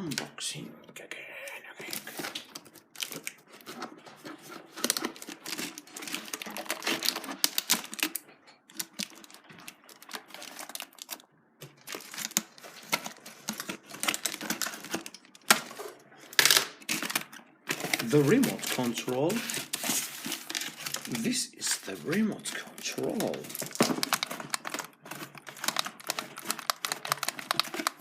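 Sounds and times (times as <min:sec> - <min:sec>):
cardboard box and plastic rustling: 0:01.6 - 0:28.0.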